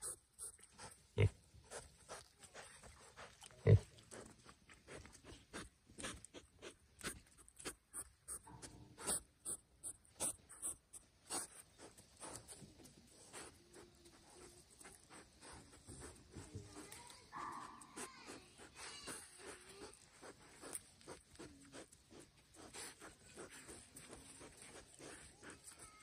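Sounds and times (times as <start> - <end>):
piglets snuffling in wet mud: 0.0 - 26.0.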